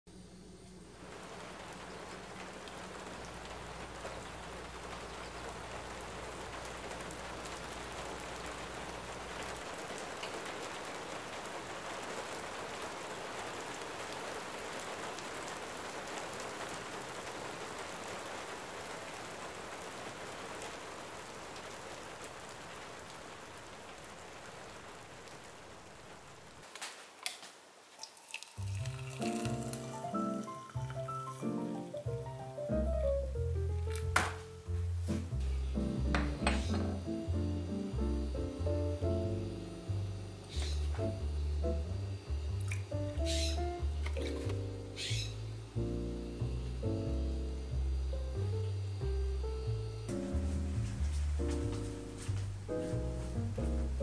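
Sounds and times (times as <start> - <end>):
rain falling: 0.1 - 54.0.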